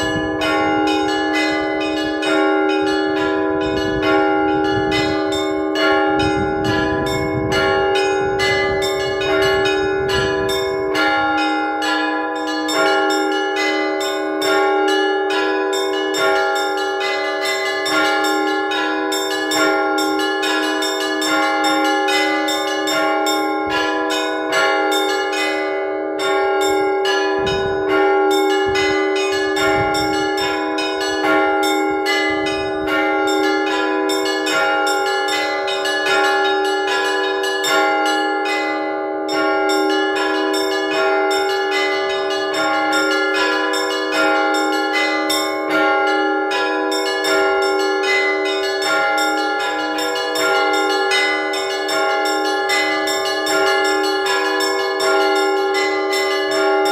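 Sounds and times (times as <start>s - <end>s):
church bells ringing rapid peal: 0.0s - 56.9s.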